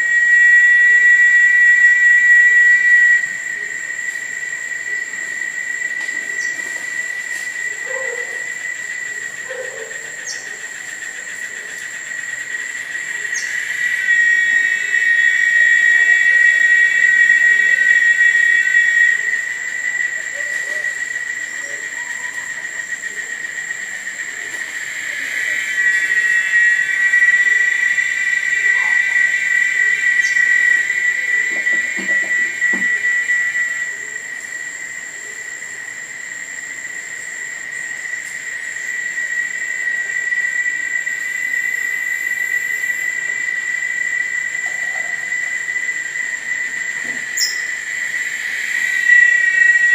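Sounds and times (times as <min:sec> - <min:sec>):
high-pitched insect drone: 0:00.0 - 0:49.9.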